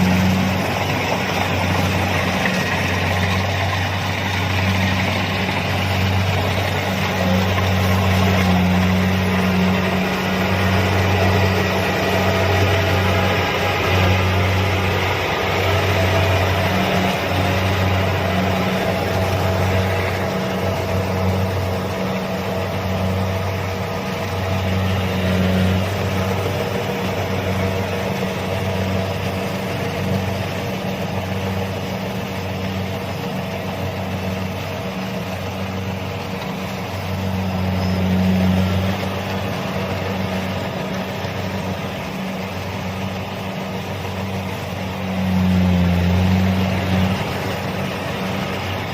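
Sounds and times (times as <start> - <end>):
combine harvester engine drone: 0.0 - 48.9.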